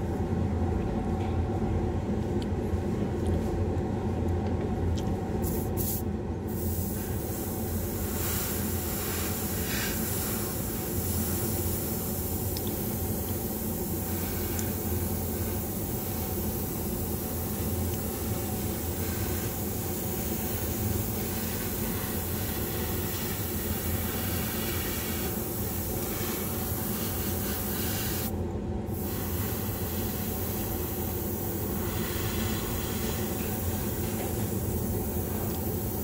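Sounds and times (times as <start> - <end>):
low machine hum: 0.0 - 36.0
airbrush spraying hiss: 5.4 - 28.3, 28.9 - 36.0.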